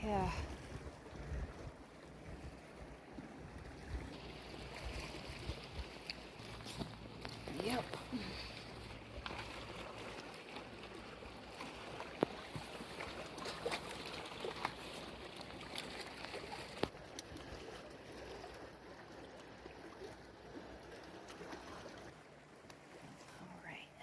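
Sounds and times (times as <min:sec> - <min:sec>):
lake water lapping at shore: 0:00.0 - 0:24.0.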